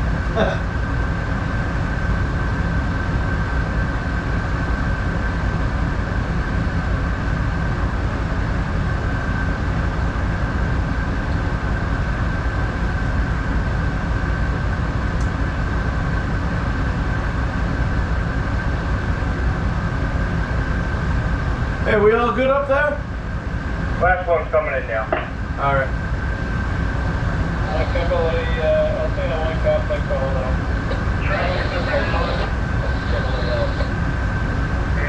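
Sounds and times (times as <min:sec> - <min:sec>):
boat engines droning: 0:00.0 - 0:35.0
thin steady whine: 0:00.0 - 0:35.0.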